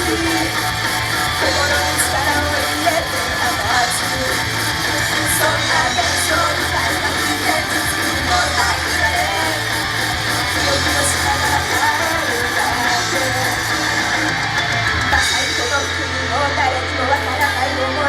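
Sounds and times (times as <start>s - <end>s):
live rock-style pop music: 0.0s - 18.0s.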